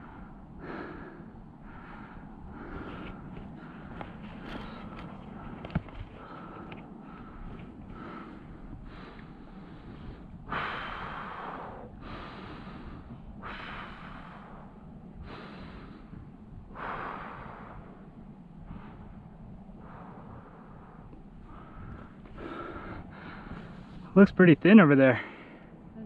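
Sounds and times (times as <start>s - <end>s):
person breathing deeply: 0.0s - 24.2s, 25.2s - 26.0s
low wind noise: 0.0s - 26.0s.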